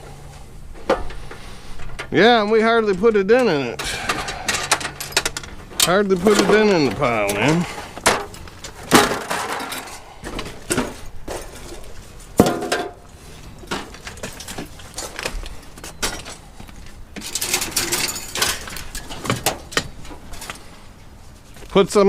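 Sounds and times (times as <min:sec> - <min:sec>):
scrap metal clanking: 0:00.8 - 0:15.2, 0:17.2 - 0:20.7.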